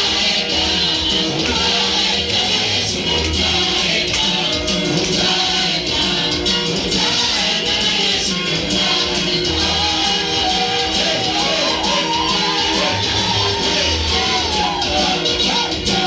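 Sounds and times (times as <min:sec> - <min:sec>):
worship band music: 0:00.0 - 0:16.0.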